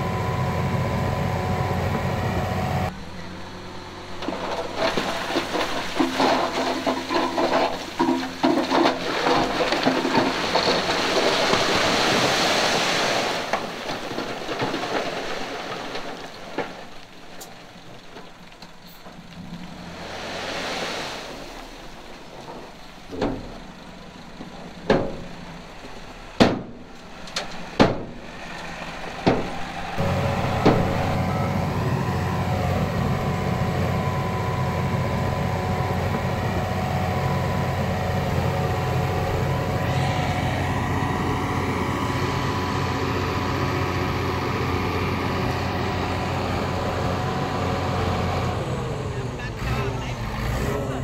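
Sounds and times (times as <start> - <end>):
heavy diesel engine running: 0.0 - 16.9, 21.4 - 51.0.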